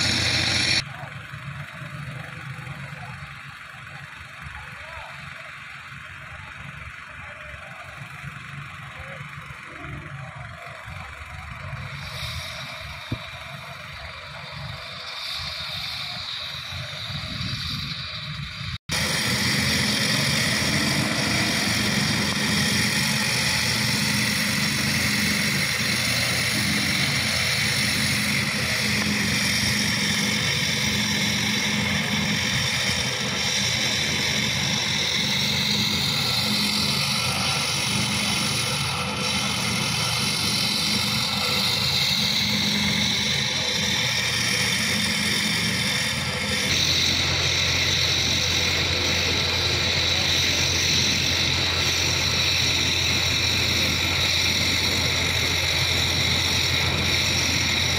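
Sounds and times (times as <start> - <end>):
heavy diesel machinery running: 0.0 - 57.9.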